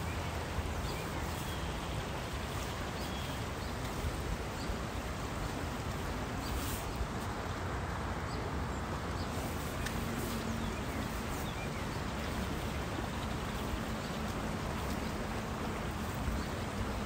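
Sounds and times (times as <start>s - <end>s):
stream water flowing: 0.0s - 17.0s.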